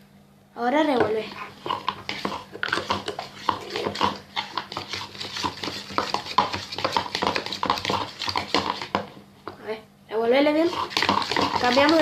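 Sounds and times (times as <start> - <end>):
utensil scraping a bowl: 1.0 - 9.2, 10.5 - 12.0.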